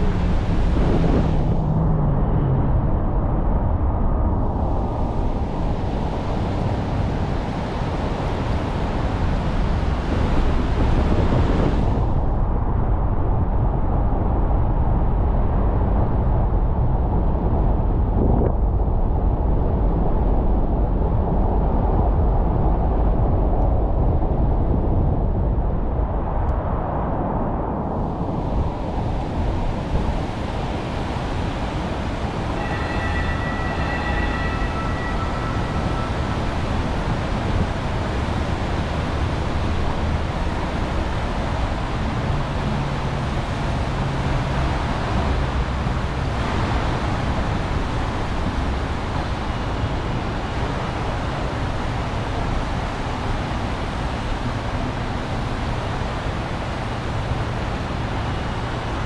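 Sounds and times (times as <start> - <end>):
car road and tyre noise: 0.0 - 59.0.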